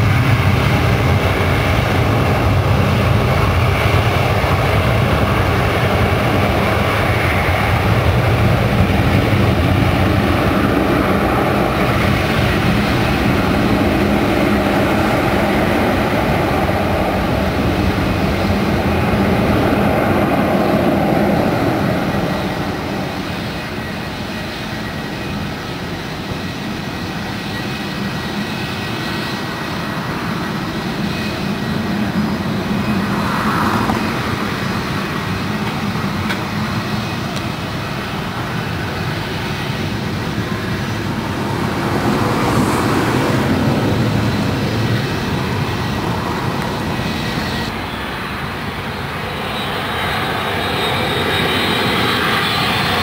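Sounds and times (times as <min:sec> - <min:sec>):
jet engines roaring at takeoff: 0:00.0 - 0:53.0.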